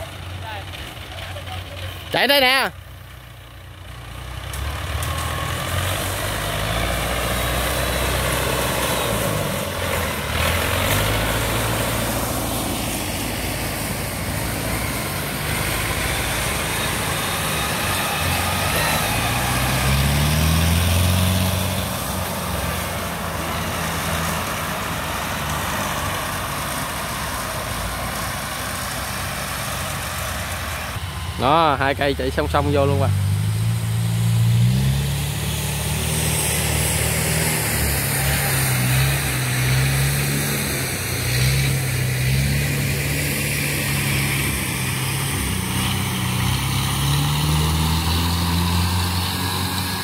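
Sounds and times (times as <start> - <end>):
combine harvester engine running: 0.0 - 50.0.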